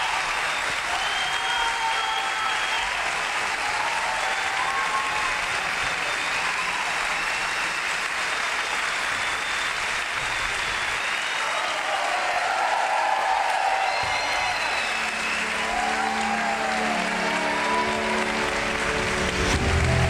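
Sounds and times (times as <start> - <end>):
cheering calls or whistles: 0.0 - 18.8
audience applauding: 0.0 - 20.0.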